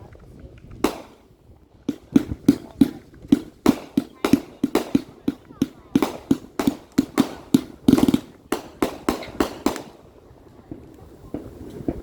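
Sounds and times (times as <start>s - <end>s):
firework bangs: 0.8s - 12.0s.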